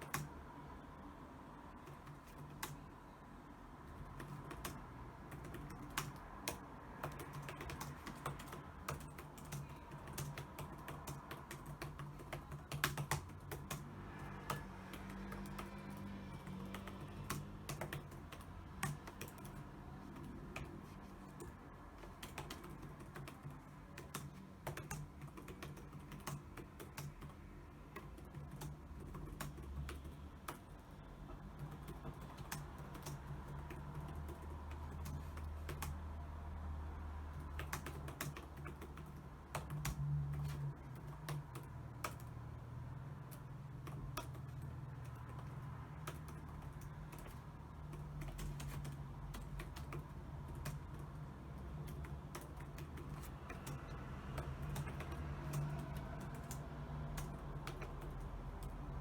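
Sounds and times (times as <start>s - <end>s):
keyboard typing clicks: 0.0s - 0.4s, 1.8s - 2.9s, 3.9s - 36.2s, 37.3s - 59.0s.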